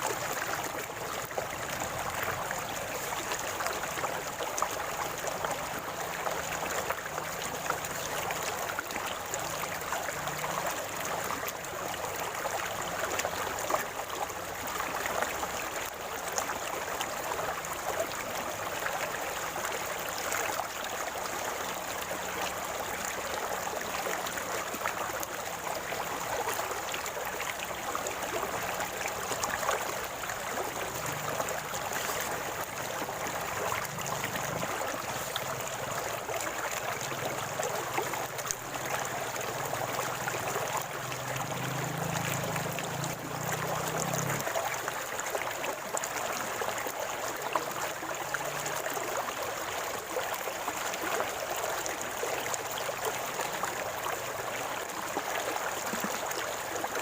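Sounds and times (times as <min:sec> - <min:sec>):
river water flowing and gurgling: 0:00.0 - 0:57.0.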